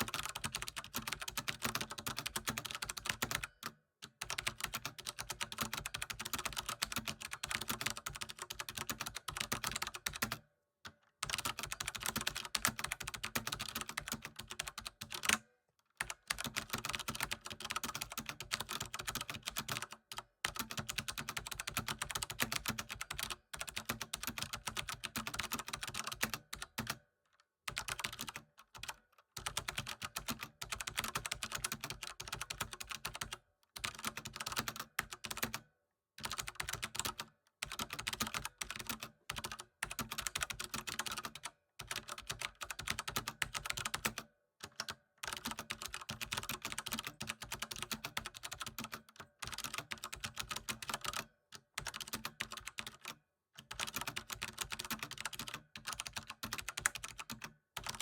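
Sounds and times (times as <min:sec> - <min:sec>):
fast typing on computer keyboard: 0:00.0 - 0:10.4, 0:11.2 - 0:15.4, 0:16.0 - 0:27.0, 0:27.7 - 0:58.0.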